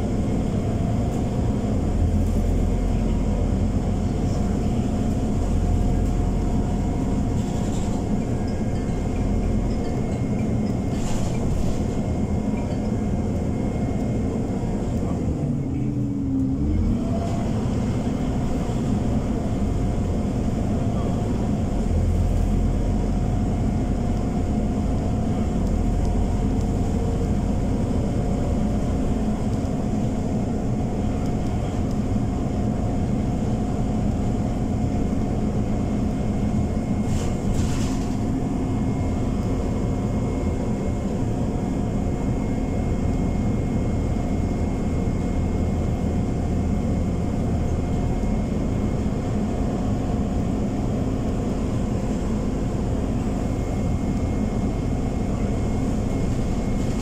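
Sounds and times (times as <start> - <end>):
bus engine drone: 0.0 - 57.0
cooling fan whine: 8.0 - 57.0.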